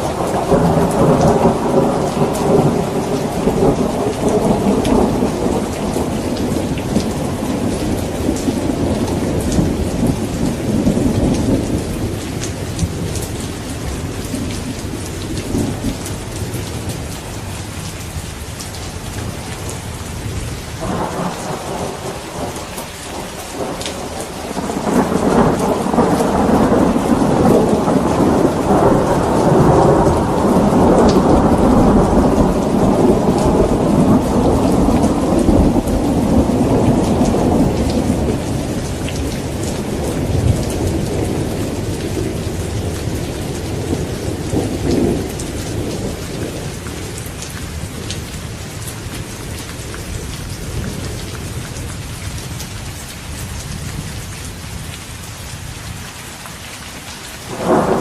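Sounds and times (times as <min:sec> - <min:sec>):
thunder rumbling: 0:00.0 - 0:17.6, 0:18.7 - 0:49.6, 0:57.5 - 0:58.0
heavy rain pattering: 0:00.0 - 0:58.0.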